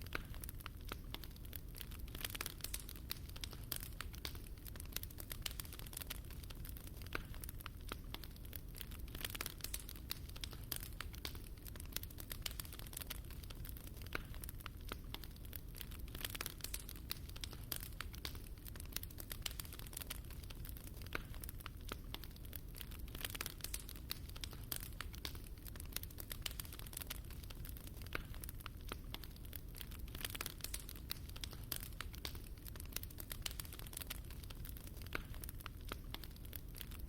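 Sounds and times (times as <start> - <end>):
fire crackling: 0.0 - 37.0.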